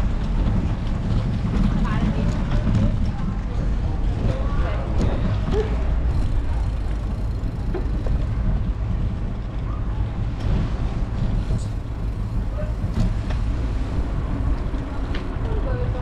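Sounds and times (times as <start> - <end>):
bicycle rolling over brick paving: 0.0 - 16.0
wind buffeting microphone: 0.0 - 16.0.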